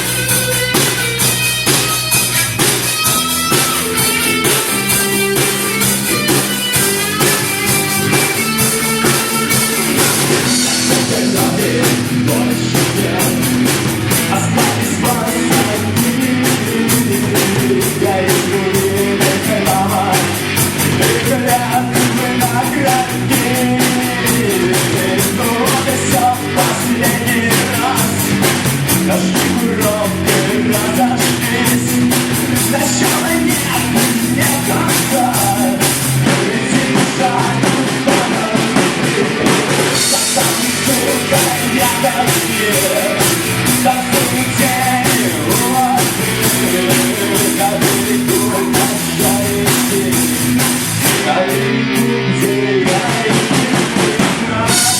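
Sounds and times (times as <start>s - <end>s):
drum hits: 0.0s - 51.4s
live rock band playing: 0.0s - 54.9s.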